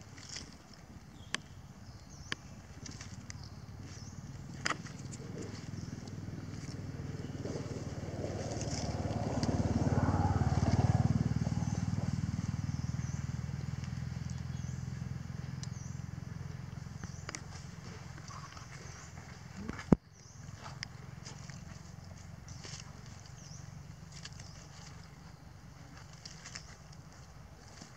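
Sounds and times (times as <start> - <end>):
vehicle engine passing by: 3.8 - 19.5, 20.2 - 27.9.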